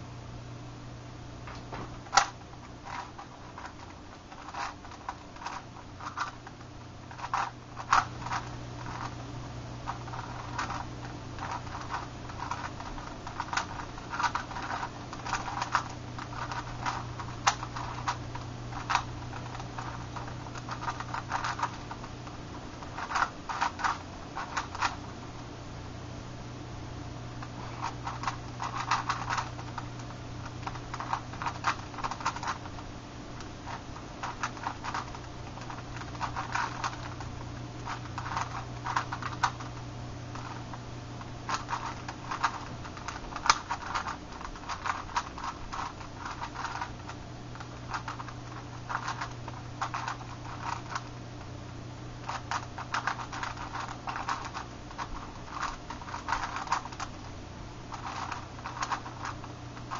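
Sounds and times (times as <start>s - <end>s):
steady low hum: 0.0s - 59.9s
puzzle cube clicking: 1.6s - 6.5s, 7.1s - 9.1s, 9.9s - 22.0s, 22.8s - 25.0s, 27.6s - 32.8s, 33.4s - 37.2s, 37.8s - 40.7s, 41.5s - 47.0s, 47.6s - 51.1s, 52.2s - 57.2s, 57.9s - 59.9s.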